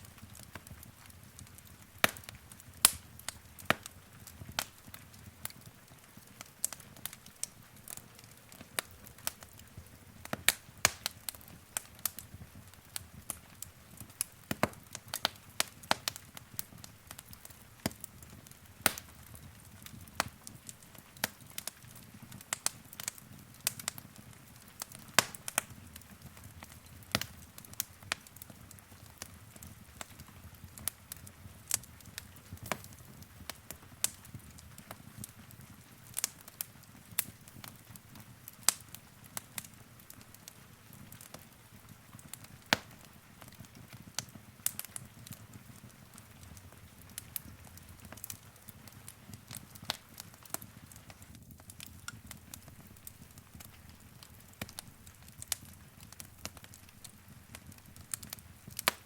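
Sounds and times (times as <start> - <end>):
low rumble of flame: 0.0 - 59.0
wood fire crackling: 0.0 - 59.0.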